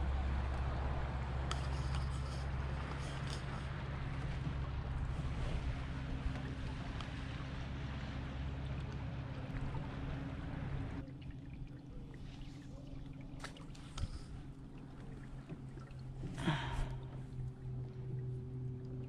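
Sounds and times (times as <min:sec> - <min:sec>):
low motor hum: 0:00.0 - 0:19.0
water rushing along hull: 0:00.0 - 0:19.0.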